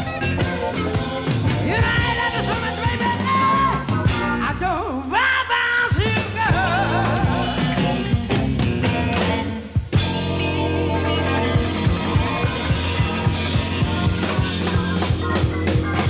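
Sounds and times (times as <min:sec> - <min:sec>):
bending lead melody: 0:00.0 - 0:04.8, 0:06.5 - 0:16.0
bass and drums: 0:00.0 - 0:16.0.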